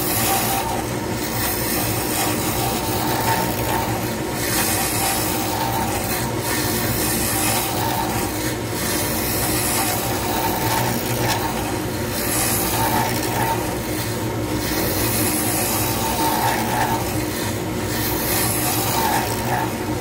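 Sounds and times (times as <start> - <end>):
lathe motor hum: 0.0 - 20.0
turning tool scraping hiss: 0.0 - 20.0.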